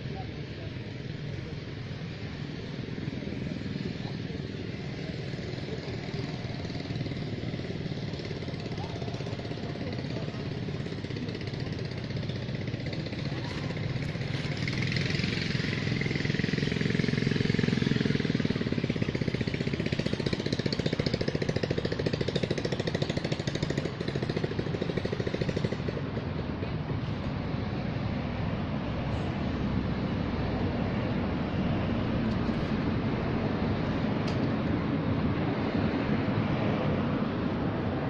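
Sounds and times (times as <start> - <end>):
engine running with rapid throb: 0.0 - 38.0.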